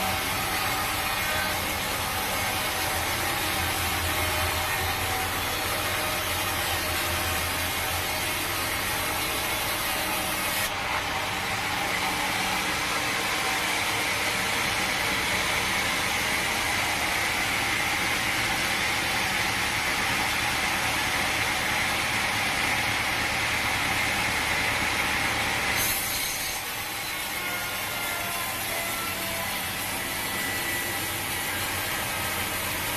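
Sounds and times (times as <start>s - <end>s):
saw blade cutting wood: 0.0s - 19.0s, 25.5s - 32.9s
machinery running: 0.0s - 32.9s.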